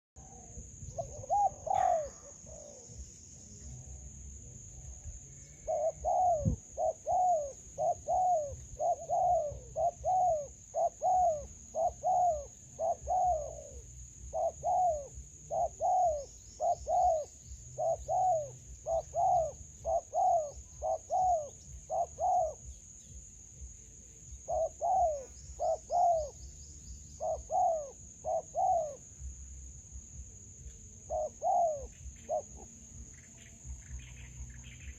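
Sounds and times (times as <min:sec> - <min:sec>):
dove cooing: 0:00.2 - 0:03.1, 0:04.9 - 0:23.0, 0:24.2 - 0:29.4, 0:30.0 - 0:34.9.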